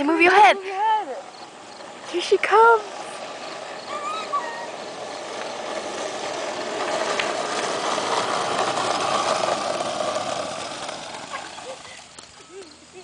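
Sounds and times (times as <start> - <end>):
small wheels rattling on pavement: 0.0 - 13.0.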